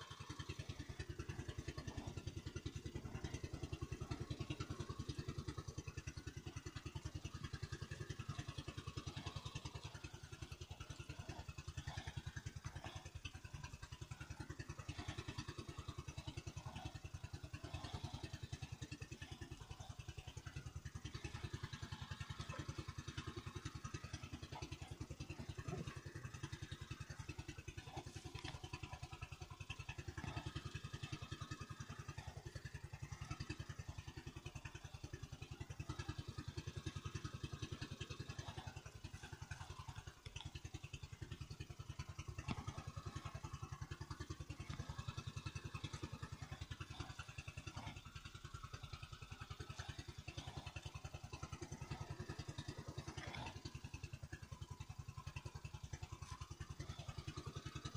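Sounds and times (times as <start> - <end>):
boat engine running steadily: 0.0 - 57.9.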